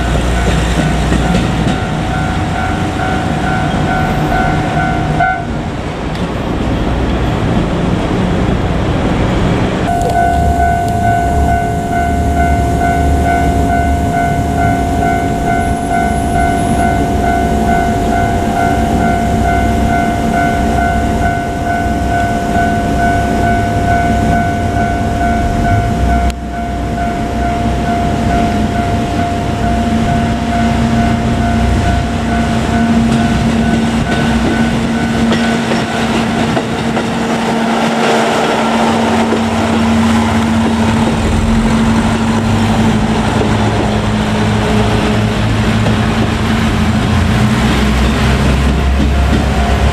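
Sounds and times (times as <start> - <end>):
level crossing alarm ringing: 0.0 - 5.7, 9.8 - 49.9
diesel railcar engine: 0.0 - 49.9
train wheel noise: 0.0 - 49.9.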